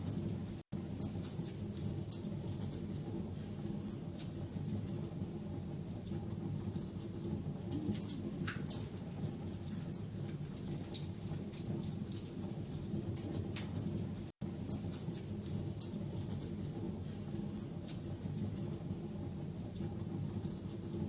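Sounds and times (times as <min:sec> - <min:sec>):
fire crackles and pops: 0:00.0 - 0:21.0
wood fire rumbling: 0:00.0 - 0:21.0.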